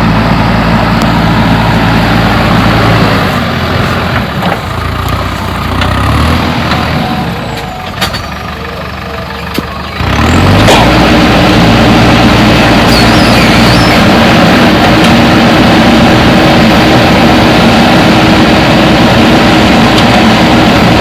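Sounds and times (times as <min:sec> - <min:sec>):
diesel engine revving: 0:00.0 - 0:21.0.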